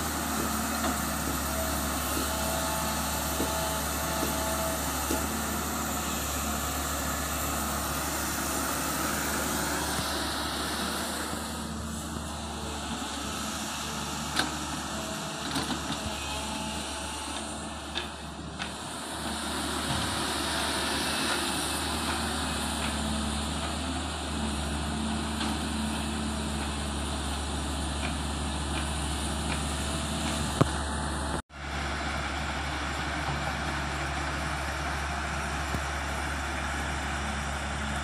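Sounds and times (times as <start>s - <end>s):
excavator diesel engine digging: 0.0s - 38.0s.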